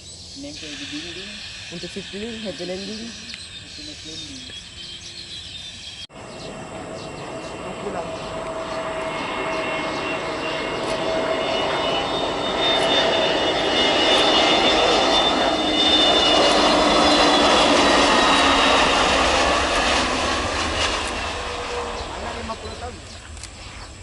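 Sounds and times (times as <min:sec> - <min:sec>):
airliner engines passing: 0:00.0 - 0:24.0.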